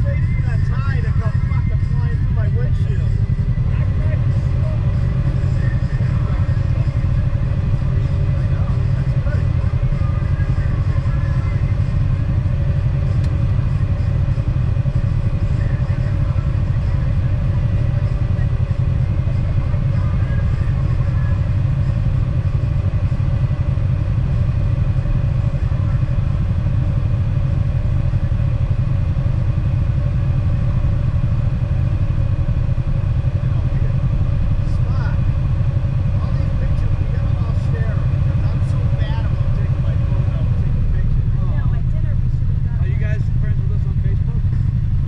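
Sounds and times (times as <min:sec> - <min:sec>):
vehicle engines idling: 0:00.0 - 0:45.0.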